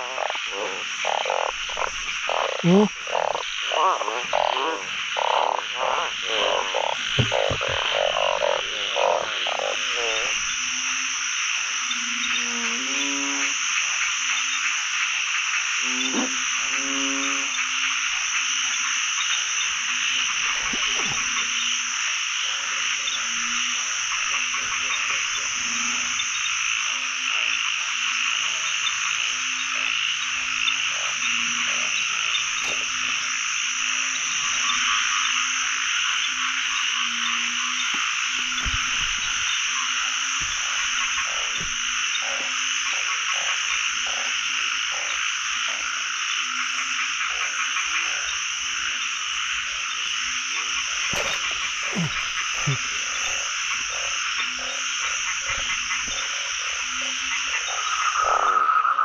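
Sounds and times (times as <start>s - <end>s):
frog chorus croaking: 0.0s - 59.0s.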